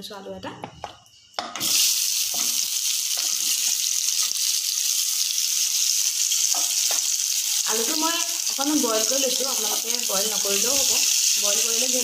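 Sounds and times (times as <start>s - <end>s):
potatoes sizzling in hot oil: 1.6s - 12.0s.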